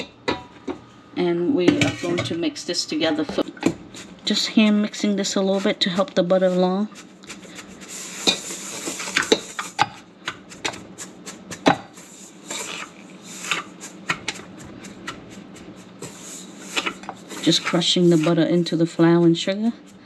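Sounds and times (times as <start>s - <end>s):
beater scraping and knocking metal bowl: 1.6s - 2.5s, 3.2s - 20.0s.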